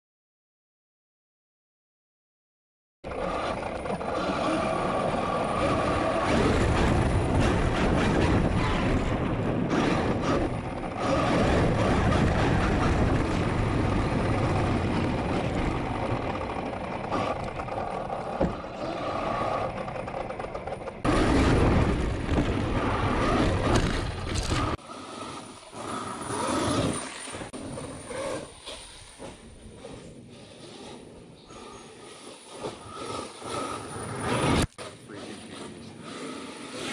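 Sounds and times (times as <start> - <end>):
electric motor and gear whine: 3.1 - 36.9
tyre and chassis rumble: 3.1 - 36.9.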